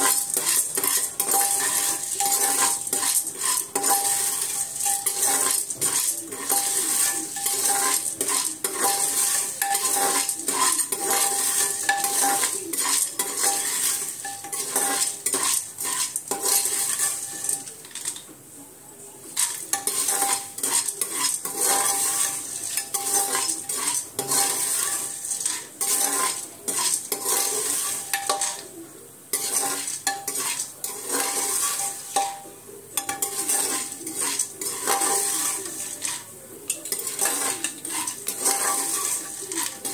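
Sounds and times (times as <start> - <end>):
ladle scraping metal pot: 0.0 - 18.3, 19.2 - 39.9
popcorn kernels rattling: 0.0 - 18.3, 19.3 - 39.9
faint oil sizzle: 0.0 - 39.9.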